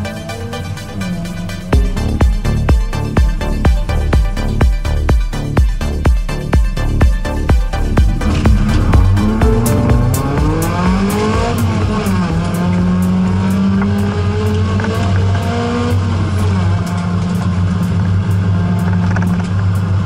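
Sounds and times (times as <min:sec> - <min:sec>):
race car engine revving: 0:00.0 - 0:04.5, 0:06.8 - 0:20.0.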